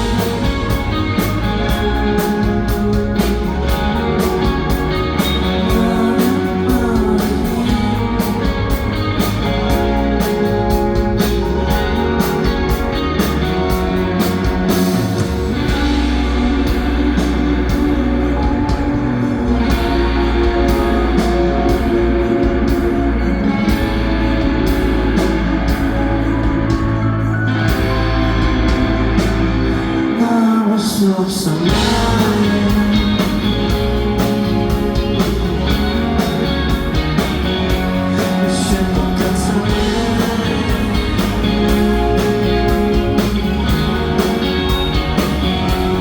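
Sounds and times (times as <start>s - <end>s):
steady drum beat: 0.0s - 30.1s, 31.7s - 46.0s
bass guitar: 0.0s - 46.0s
electric guitars: 0.0s - 46.0s.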